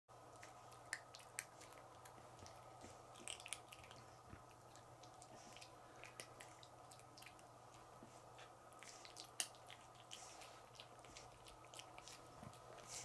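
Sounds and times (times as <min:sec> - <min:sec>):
low steady hum: 0:00.1 - 0:13.0
puppy chewing a plush toy: 0:00.2 - 0:13.0.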